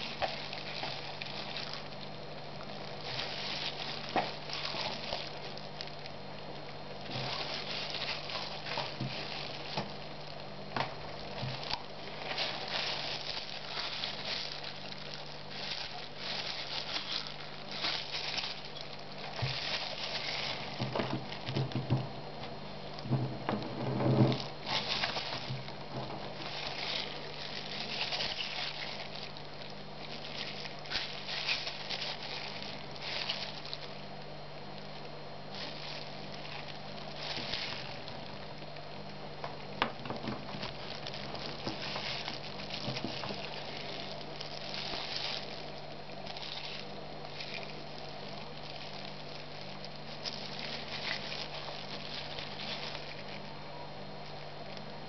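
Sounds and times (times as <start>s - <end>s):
faint steady hum: 0.0s - 55.0s
plastic glove and paper rustling: 0.0s - 55.0s.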